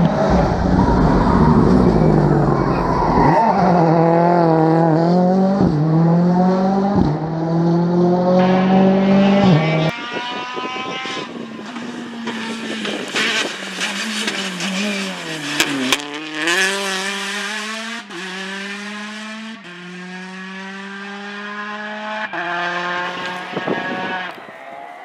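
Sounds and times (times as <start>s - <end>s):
rally car engine at high revs: 0.0s - 24.4s.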